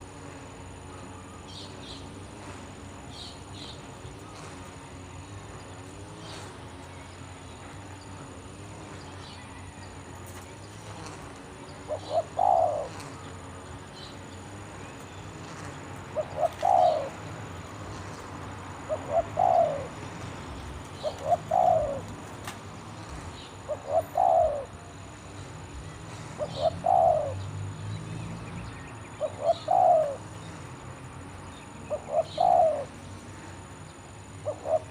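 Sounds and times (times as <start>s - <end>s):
dove cooing: 0.7s - 27.8s, 29.0s - 30.8s, 31.7s - 34.9s.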